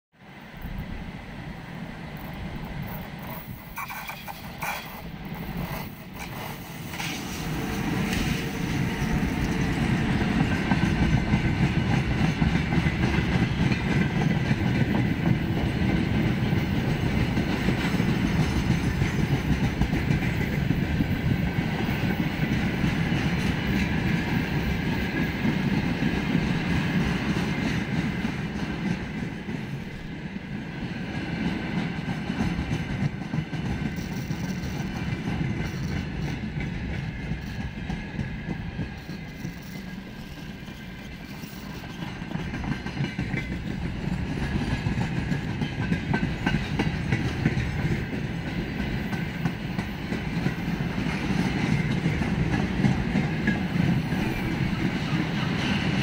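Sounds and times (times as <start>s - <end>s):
train wheels rumbling on rails: 0.2s - 56.0s.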